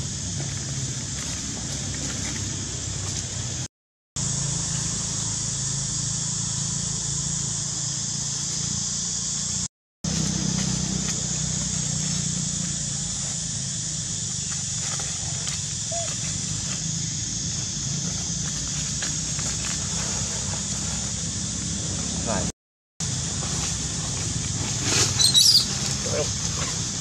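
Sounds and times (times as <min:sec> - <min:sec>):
steady high hiss: 0:04.2 - 0:27.0.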